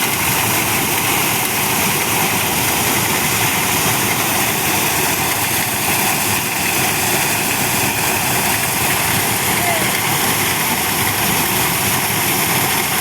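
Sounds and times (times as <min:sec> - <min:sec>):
corn sheller machine running: 0:00.0 - 0:13.0.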